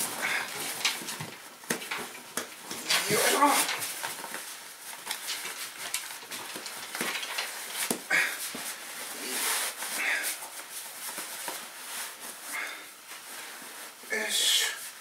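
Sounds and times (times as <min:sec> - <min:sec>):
sleeping bag fabric rustling: 0:00.0 - 0:15.0.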